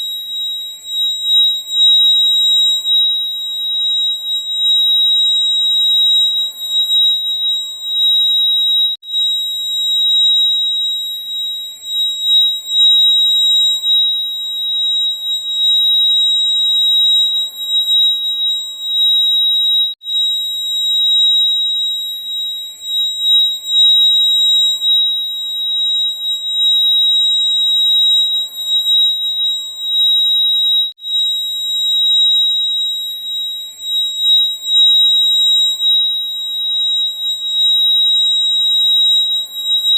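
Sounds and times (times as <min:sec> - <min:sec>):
fire alarm high-pitched tone: 0:00.0 - 0:39.9.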